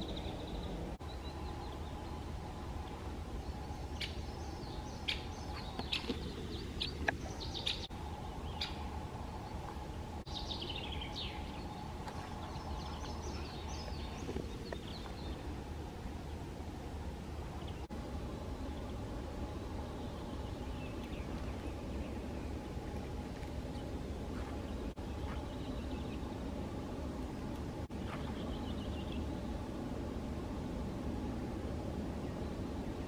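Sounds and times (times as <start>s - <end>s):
songbirds singing and chirping: 0.0s - 33.0s
steady low hum: 0.0s - 33.0s.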